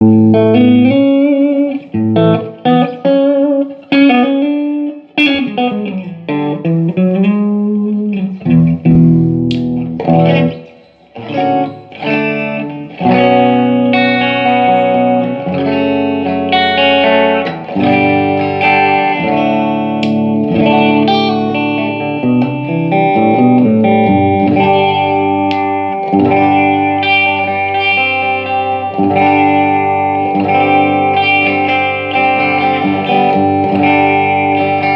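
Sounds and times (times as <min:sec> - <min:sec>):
overdriven electric guitar: 0:00.0 - 0:34.9.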